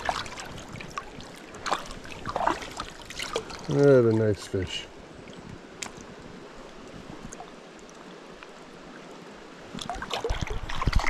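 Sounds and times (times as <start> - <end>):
river water over gravel: 0.0 - 11.0.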